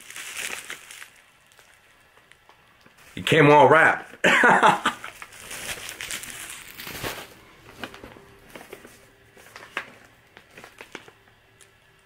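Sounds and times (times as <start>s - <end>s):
bubble wrap crinkling: 0.0s - 3.6s, 4.7s - 12.0s.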